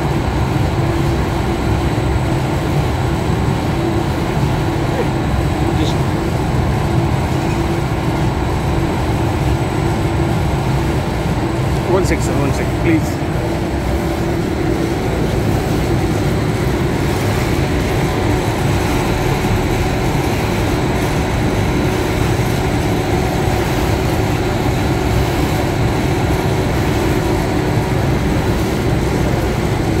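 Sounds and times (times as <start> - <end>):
machine running: 0.0 - 30.0.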